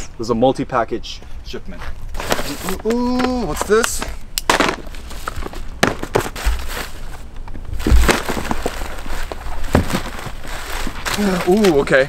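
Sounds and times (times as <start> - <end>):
paper and cardboard rustling: 2.1 - 12.0.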